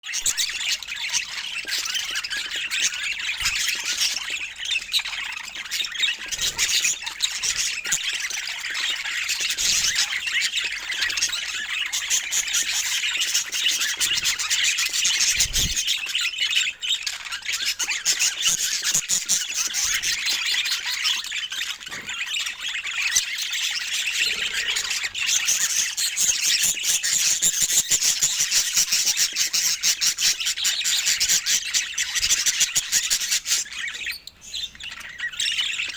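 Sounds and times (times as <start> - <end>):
budgerigars chirping: 0.1 - 35.9.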